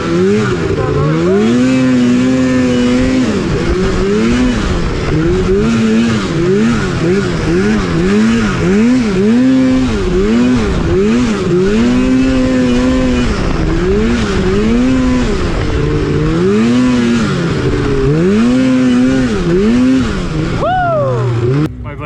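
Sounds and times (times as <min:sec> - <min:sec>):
snowmobile engine revving: 0:00.0 - 0:22.0.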